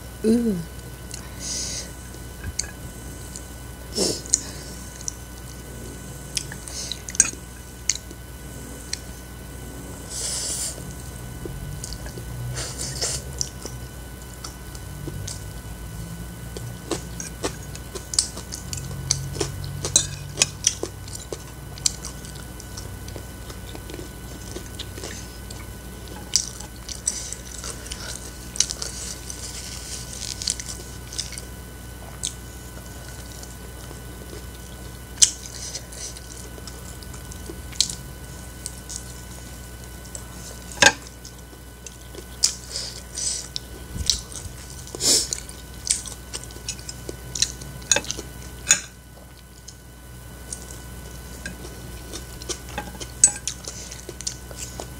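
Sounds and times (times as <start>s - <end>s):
chewing crispy food: 2.0s - 54.9s.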